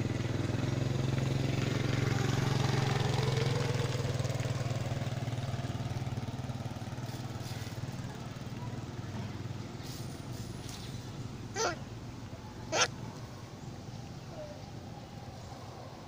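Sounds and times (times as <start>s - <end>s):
small engine idling: 0.0s - 15.9s.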